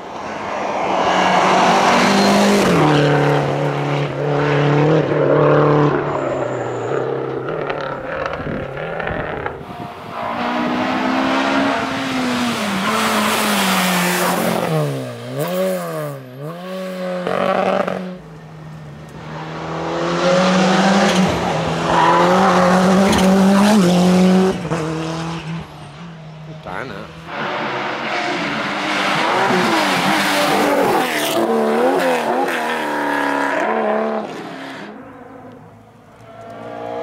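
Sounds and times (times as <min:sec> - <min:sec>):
rally car engines revving: 0:00.0 - 0:37.0.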